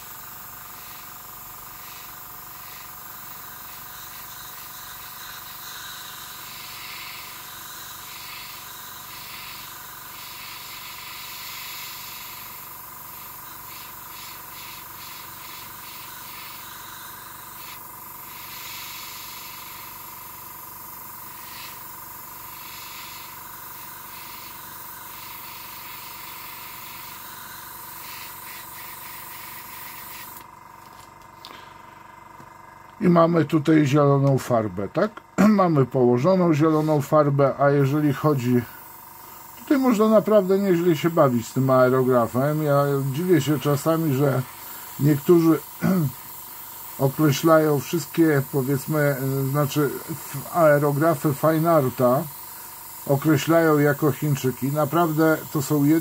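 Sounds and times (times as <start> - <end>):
airbrush hissing: 0.0 - 30.4, 35.6 - 56.0.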